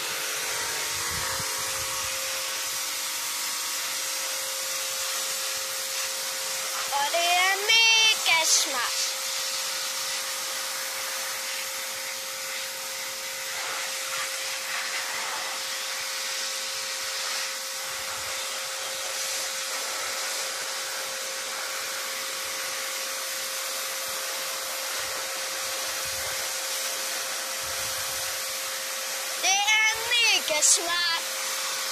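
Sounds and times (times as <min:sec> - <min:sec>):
pressure washer spraying: 0:00.0 - 0:31.9.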